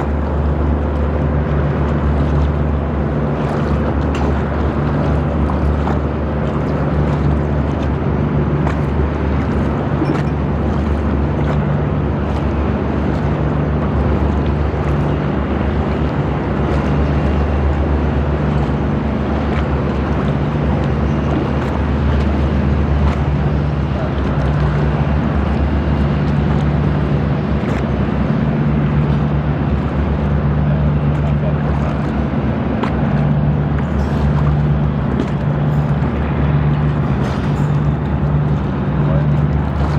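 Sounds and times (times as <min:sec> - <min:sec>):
boat engine droning: 0:00.0 - 0:39.9
water noise: 0:00.0 - 0:39.9
wind: 0:00.0 - 0:39.9.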